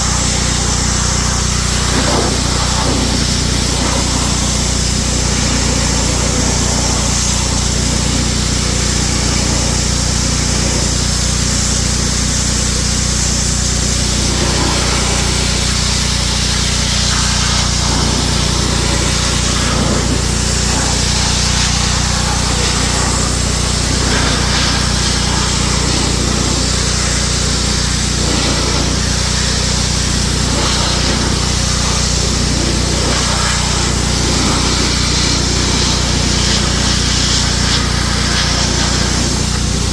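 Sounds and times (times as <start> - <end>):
power tool running: 0.0 - 39.9.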